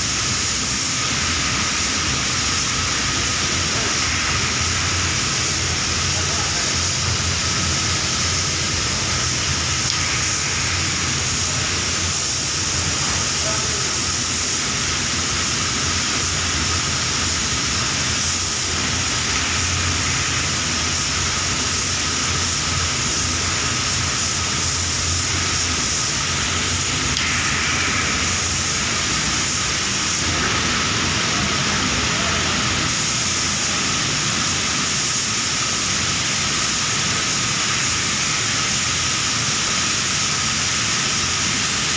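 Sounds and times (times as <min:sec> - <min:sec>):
spray booth hiss: 0:00.0 - 0:41.9
spray gun hissing: 0:00.0 - 0:41.9.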